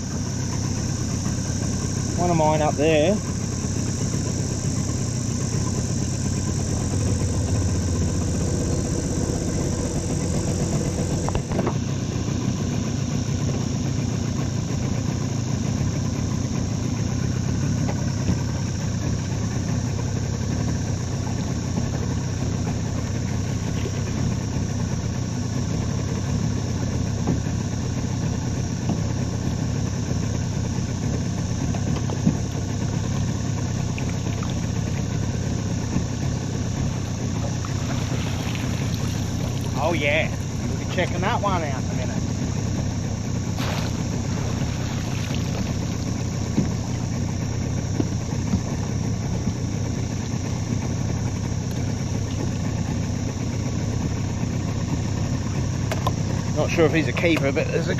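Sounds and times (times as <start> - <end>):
outboard motor running: 0.0 - 57.9.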